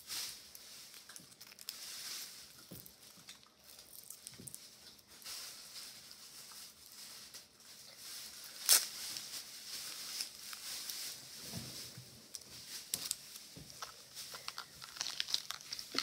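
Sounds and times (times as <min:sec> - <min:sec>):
candy wrapper crinkling: 0:00.5 - 0:11.3, 0:12.3 - 0:16.0.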